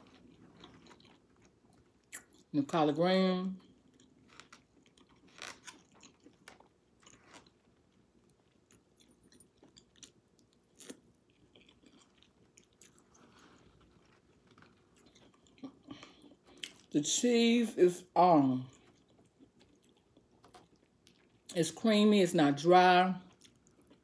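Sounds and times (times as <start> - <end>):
person chewing wetly: 0.0 - 2.5, 3.6 - 16.9, 18.7 - 21.5, 23.3 - 24.0.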